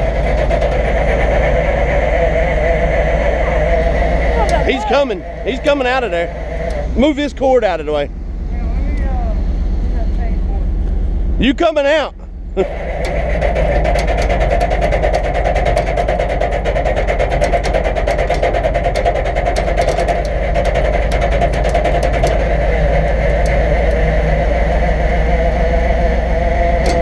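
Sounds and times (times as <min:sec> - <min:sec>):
winch whining and ticking: 0:00.0 - 0:27.0.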